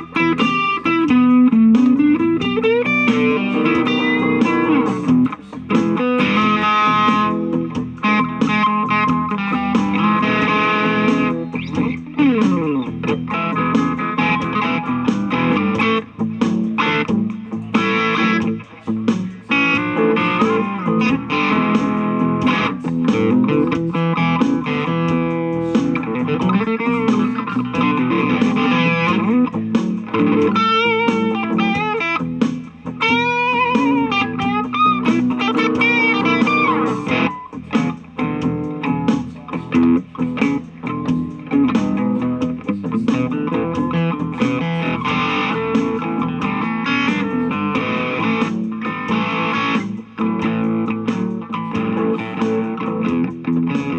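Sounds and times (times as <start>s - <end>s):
electric guitar blues licks: 0.0s - 53.9s.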